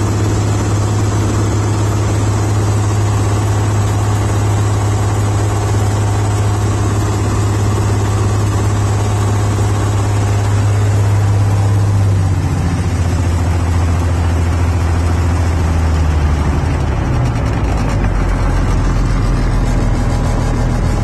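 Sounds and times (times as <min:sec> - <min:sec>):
aircraft engine and propeller: 0:00.0 - 0:21.0.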